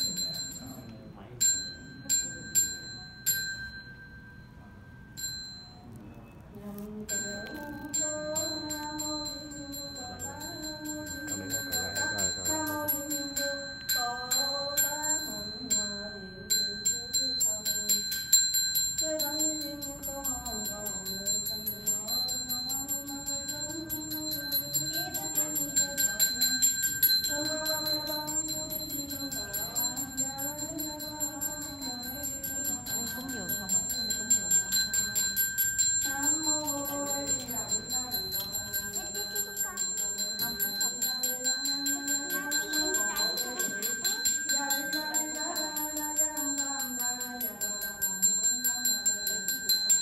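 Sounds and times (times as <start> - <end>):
high-pitched ringing tones: 0.0 - 50.0
slow wavering melody: 6.7 - 50.0.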